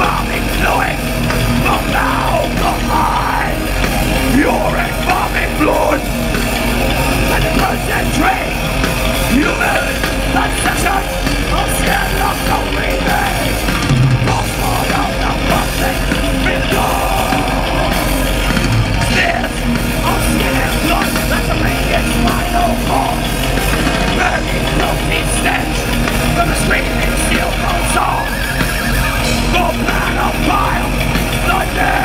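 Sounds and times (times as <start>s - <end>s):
bass guitar: 0.0s - 32.0s
distorted electric guitars: 0.0s - 32.0s
drums: 0.0s - 32.0s.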